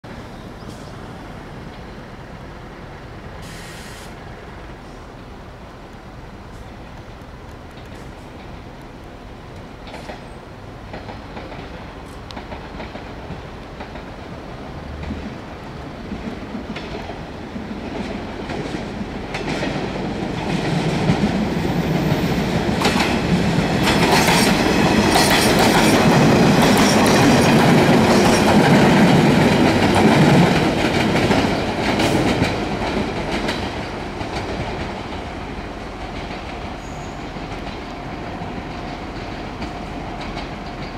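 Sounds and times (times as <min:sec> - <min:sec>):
train wheels clicking over rail joints: 0:05.9 - 0:40.9.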